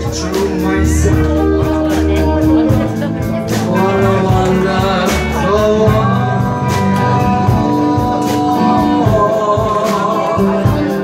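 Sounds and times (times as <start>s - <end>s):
live band playing: 0.0s - 11.0s
man singing into a microphone: 0.0s - 11.0s.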